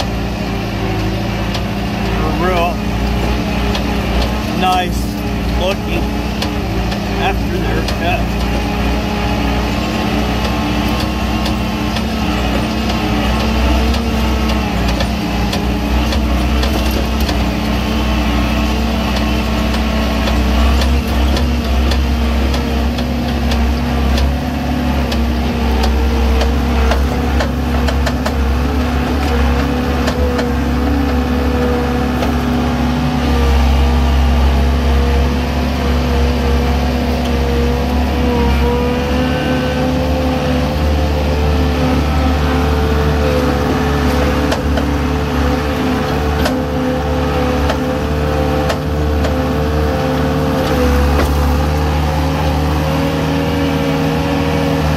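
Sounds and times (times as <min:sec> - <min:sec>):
skid steer engine running: 0:00.0 - 0:54.9.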